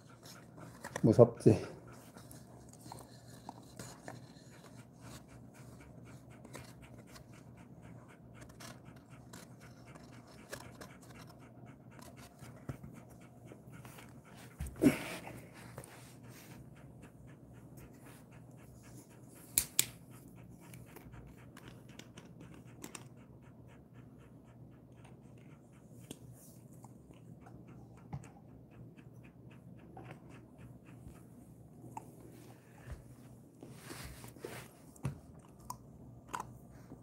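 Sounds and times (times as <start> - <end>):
dog panting: 0.0 - 37.0.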